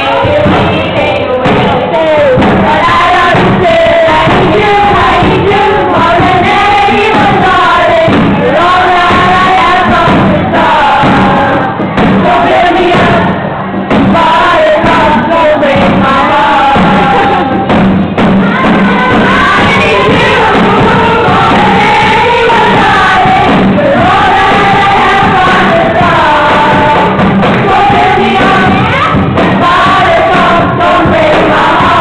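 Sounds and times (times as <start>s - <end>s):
girls singing together: 0.0s - 32.0s.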